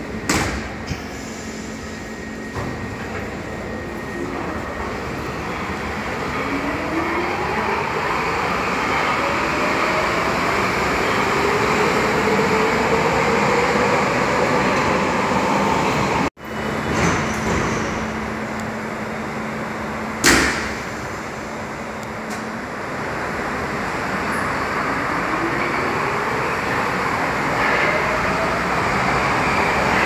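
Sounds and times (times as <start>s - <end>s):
train low hum: 0.0s - 30.0s
train rolling noise: 0.0s - 30.0s.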